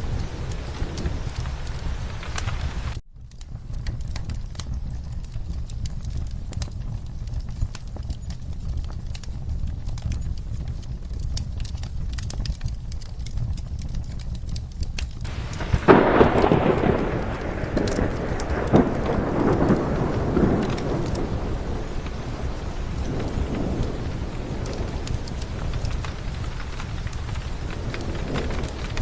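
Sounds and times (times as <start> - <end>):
rolling thunderclap: 0.0 - 14.6, 15.2 - 29.0
low background rumble: 0.0 - 29.0
steady rain: 0.0 - 29.0.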